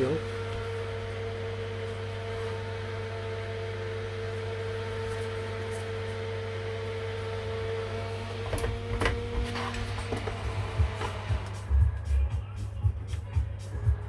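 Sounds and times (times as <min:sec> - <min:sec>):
electrical equipment hum: 0:00.0 - 0:14.0.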